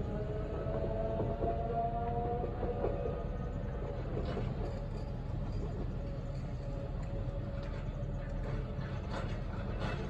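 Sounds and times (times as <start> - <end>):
distant electric train rumble: 0.0 - 10.0.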